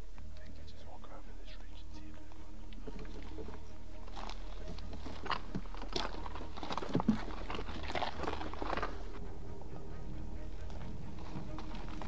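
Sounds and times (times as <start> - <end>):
footsteps on dry grass and stones: 2.0 - 12.0.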